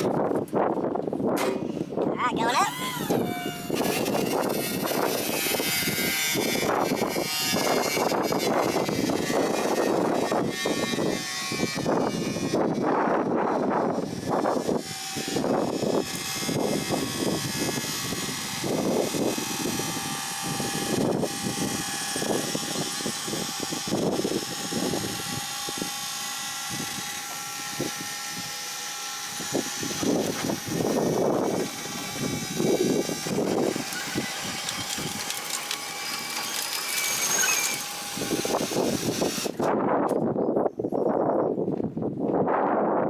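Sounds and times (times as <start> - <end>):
hydraulic pump whining: 0.0 - 40.2.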